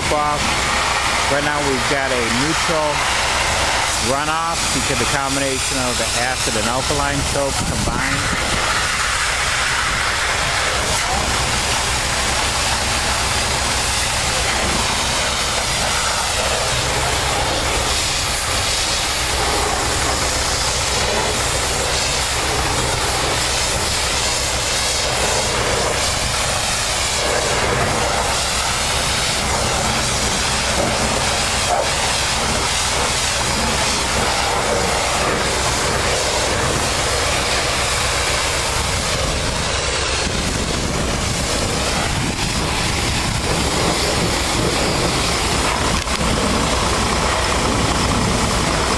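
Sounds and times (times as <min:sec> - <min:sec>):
engine running low rumble: 0:00.0 - 0:48.9
pressure washer spraying metal: 0:00.0 - 0:48.9.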